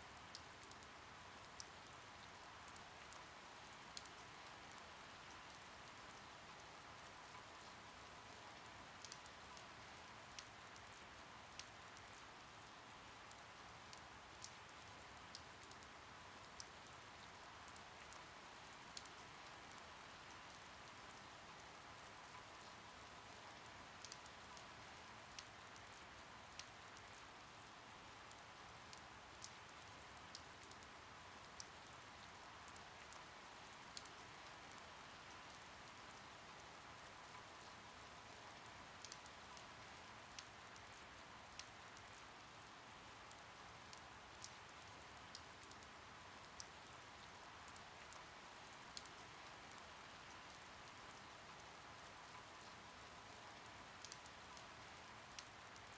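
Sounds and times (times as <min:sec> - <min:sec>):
faint steady rain: 0:00.0 - 0:55.9.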